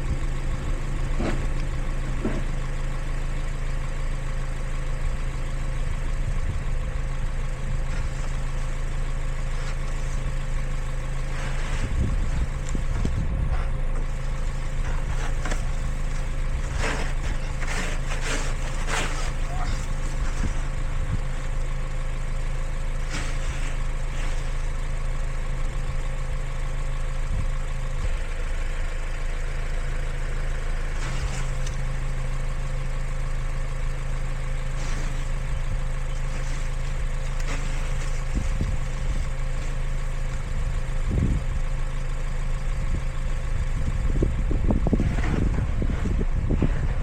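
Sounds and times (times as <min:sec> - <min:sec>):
car engine humming: 0:00.0 - 0:47.0.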